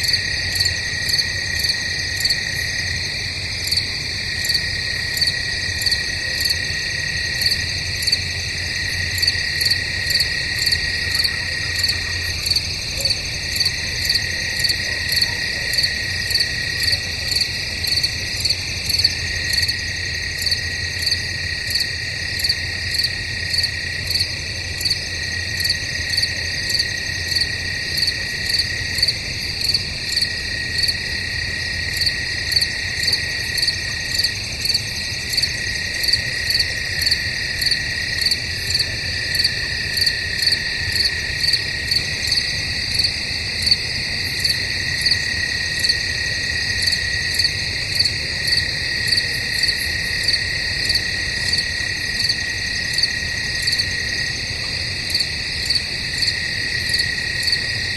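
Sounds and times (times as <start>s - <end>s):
crickets trilling: 0.0s - 57.9s
pulsing cricket chirp: 0.0s - 57.9s.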